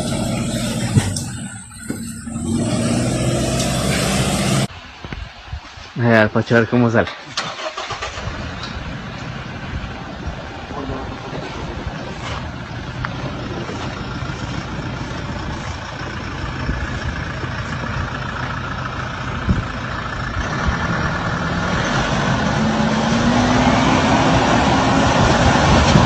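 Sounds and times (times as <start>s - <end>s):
car engine idling and revving: 0.0s - 4.7s, 7.5s - 26.0s.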